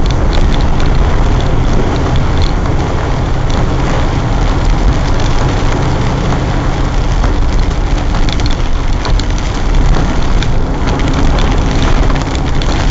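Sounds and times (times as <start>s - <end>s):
engine running at low revs: 0.0s - 12.9s.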